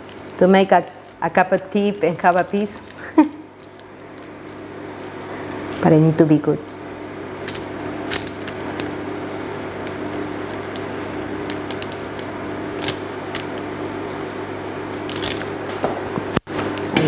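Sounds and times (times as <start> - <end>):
kitchen appliance humming: 0.0 - 17.0.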